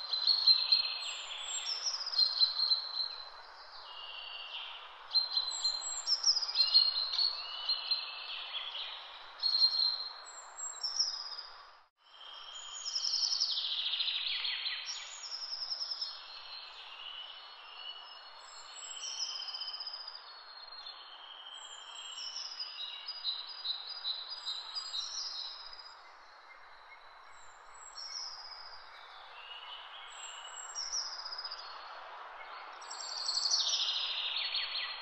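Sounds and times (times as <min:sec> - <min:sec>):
songbirds singing: 0:00.0 - 0:35.0.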